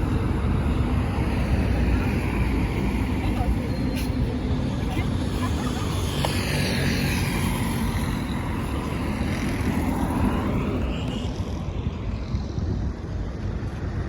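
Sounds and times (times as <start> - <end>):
steady low traffic rumble: 0.0 - 14.0
vehicles driving past: 0.0 - 14.0.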